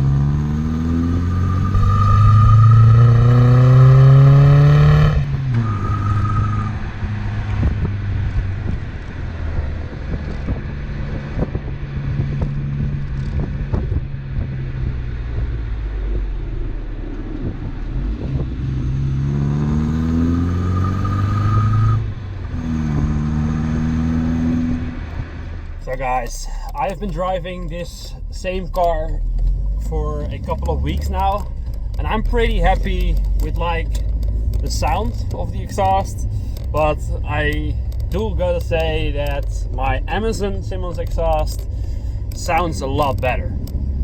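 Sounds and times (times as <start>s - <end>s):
car engine revving while driving: 0.0s - 27.6s, 28.2s - 44.0s.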